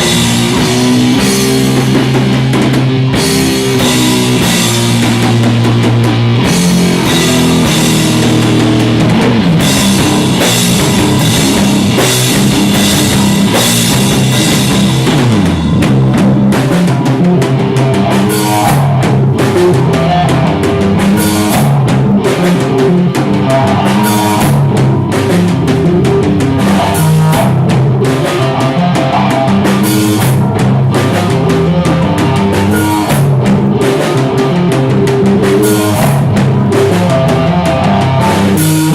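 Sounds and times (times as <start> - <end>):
drum kit beat: 0.0 - 38.9
live rock band playing: 0.0 - 38.9.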